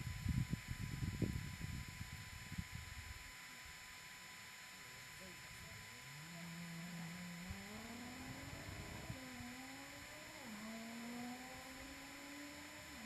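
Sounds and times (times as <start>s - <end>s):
small motor whining: 0.0s - 13.0s.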